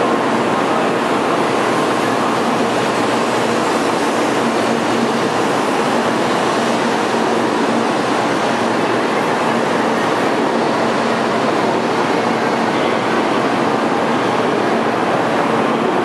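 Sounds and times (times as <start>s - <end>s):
train rushing noise: 0.0s - 16.0s.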